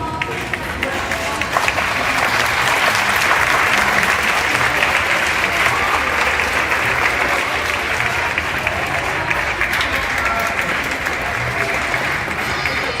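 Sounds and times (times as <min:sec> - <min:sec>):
audience clapping and cheering: 0:00.0 - 0:13.0.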